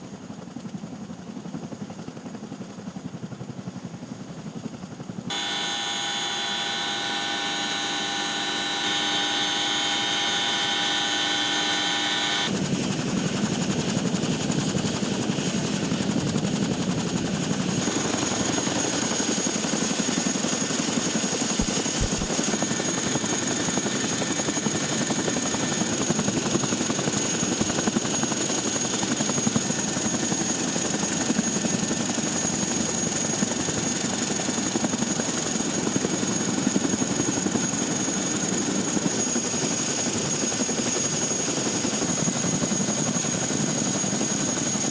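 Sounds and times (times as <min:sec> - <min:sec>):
helicopter rotor and engine noise: 0:00.0 - 0:44.9
helicopter turbine whine: 0:00.0 - 0:44.9.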